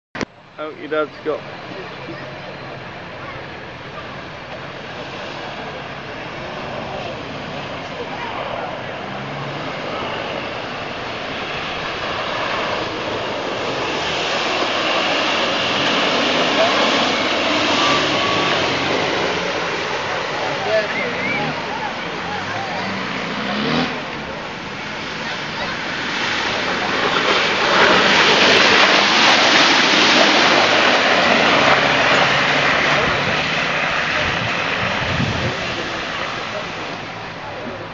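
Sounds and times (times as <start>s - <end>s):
vehicle driving through mud: 1.4s - 37.9s
off-road engine revving hard: 4.9s - 37.6s.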